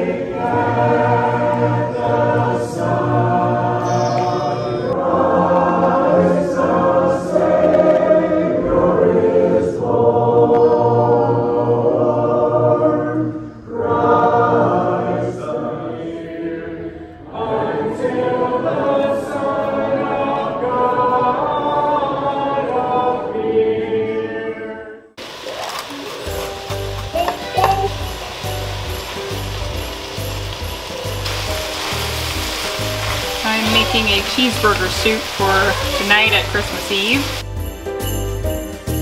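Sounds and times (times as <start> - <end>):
congregation singing a hymn: 0.0 - 25.3, 31.3 - 37.4.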